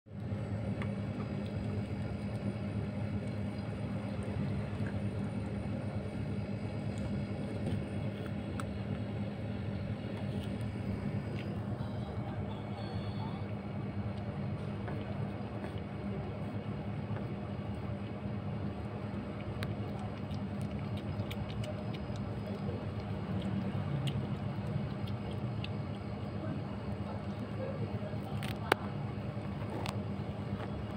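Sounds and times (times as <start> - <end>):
kitten crunching dry kibble: 0.1 - 12.7, 13.3 - 30.9
steady low hum: 0.1 - 30.9.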